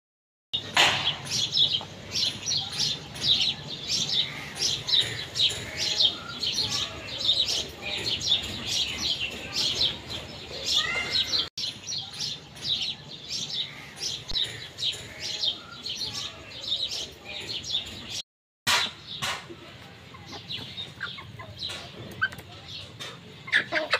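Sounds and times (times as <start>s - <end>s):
birds chirping: 0.6s - 23.9s.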